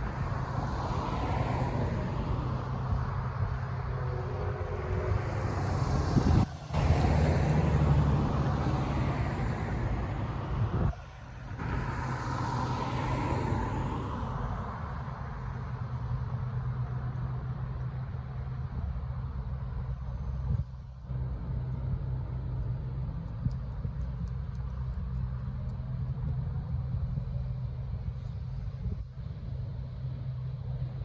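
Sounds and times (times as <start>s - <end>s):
road noise: 0.0s - 31.0s
vehicle engine rumble: 0.0s - 31.0s.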